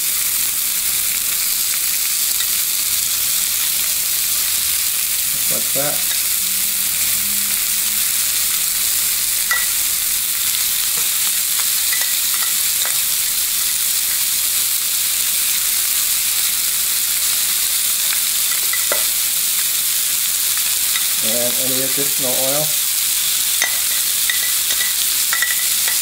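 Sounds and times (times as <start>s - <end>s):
chicken sizzling in a frying pan: 0.0s - 26.0s.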